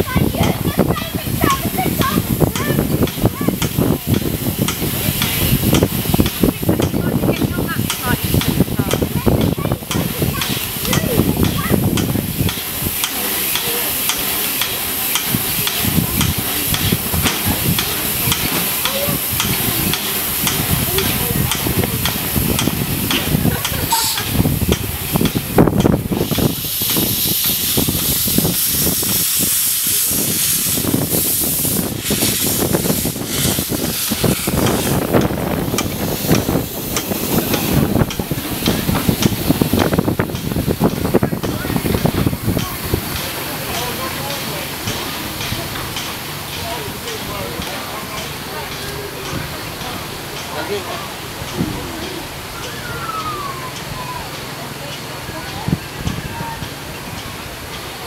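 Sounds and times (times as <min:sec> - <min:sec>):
steam locomotive hissing steam: 0:00.0 - 0:58.0.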